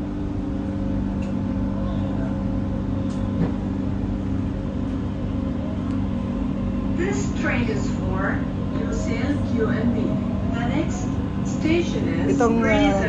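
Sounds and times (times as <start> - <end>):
electric hum: 0.0 - 13.0
train carriage rumble: 0.0 - 13.0.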